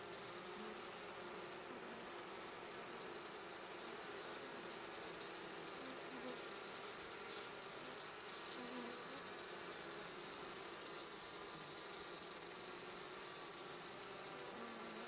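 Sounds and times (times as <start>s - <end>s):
bee buzzing close: 0.0s - 15.0s
bees humming: 0.0s - 15.0s.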